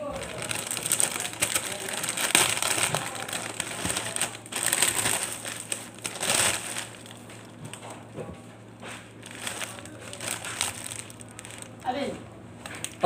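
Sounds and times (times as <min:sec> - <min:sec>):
plastic packaging crinkling: 0:00.0 - 0:08.0, 0:09.0 - 0:13.0.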